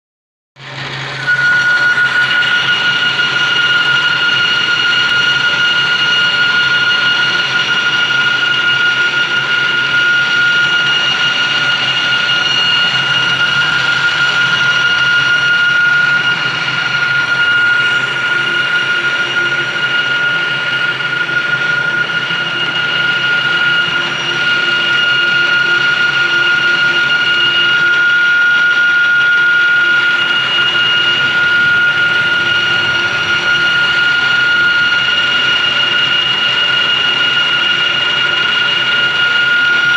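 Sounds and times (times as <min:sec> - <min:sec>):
lathe running with high whine: 0:00.6 - 0:39.9.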